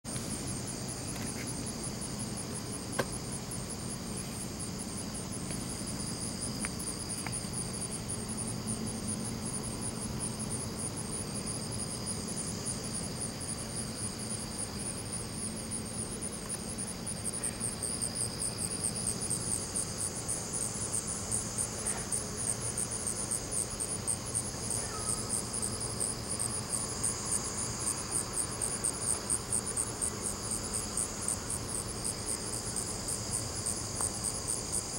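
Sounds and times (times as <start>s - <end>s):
night insects chirping: 0.1s - 34.9s.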